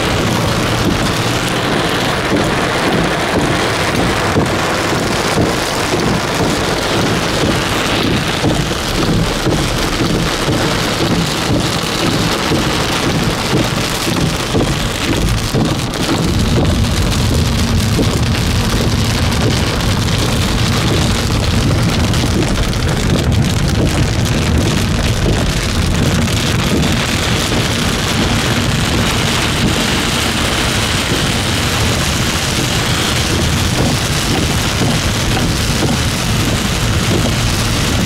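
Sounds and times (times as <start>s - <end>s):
heavy rain pouring: 0.0s - 38.0s
low rumble: 0.0s - 38.0s.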